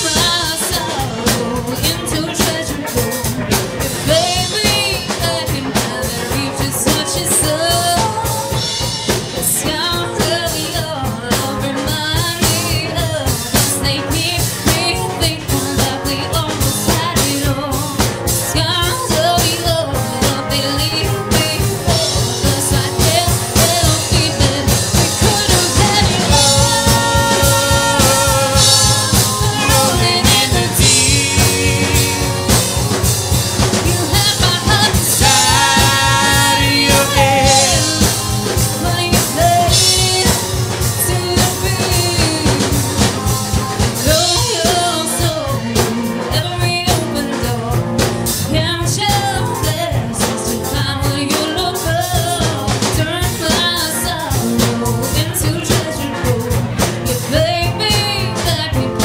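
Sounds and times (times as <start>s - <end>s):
drum kit beat: 0.0s - 59.0s
electric band accompaniment: 0.0s - 59.0s
person singing: 0.0s - 59.0s.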